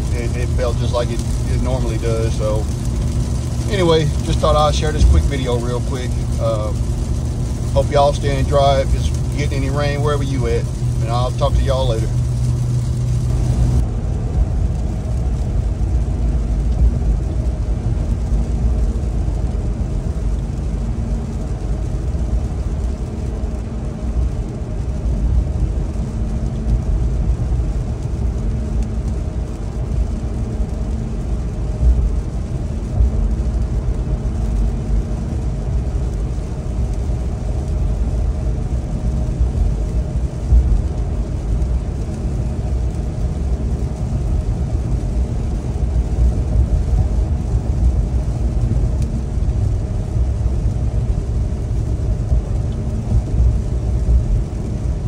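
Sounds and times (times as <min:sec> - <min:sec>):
truck cabin road rumble: 0:00.0 - 0:55.0
tyres hissing on wet road: 0:00.0 - 0:55.0.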